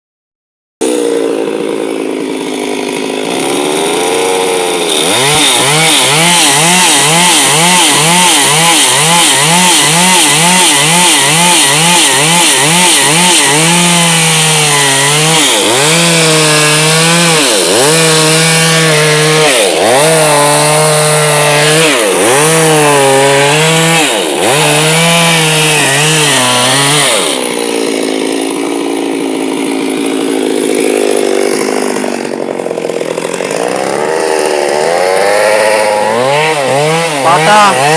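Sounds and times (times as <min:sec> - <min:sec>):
chainsaw engine revving: 0:00.8 - 0:37.9.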